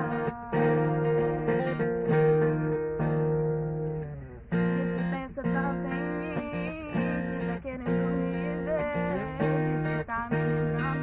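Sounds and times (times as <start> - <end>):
girl singing: 0.0 - 3.2, 4.5 - 11.0
strummed acoustic guitar: 0.0 - 11.0.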